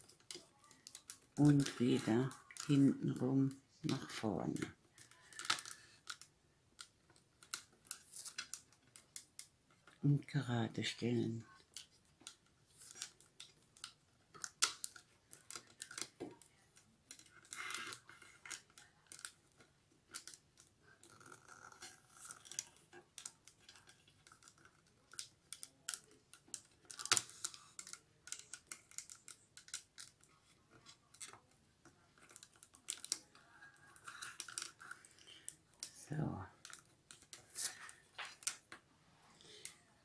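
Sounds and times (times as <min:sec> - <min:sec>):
paper tubes ticking and rustling: 0:00.0 - 0:40.0.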